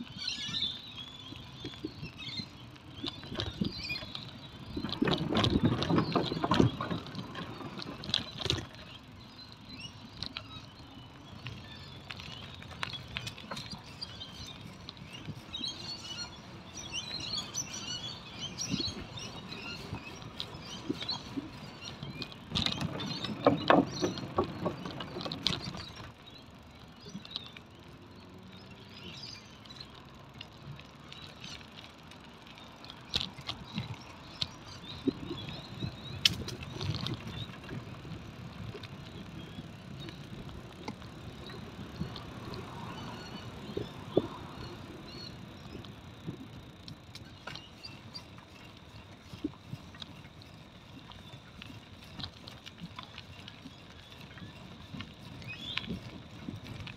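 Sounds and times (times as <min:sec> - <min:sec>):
bicycle tyre road noise: 0:00.0 - 0:56.9
bike clicks and rattles: 0:00.0 - 0:56.9
birds chirping: 0:00.0 - 0:56.9.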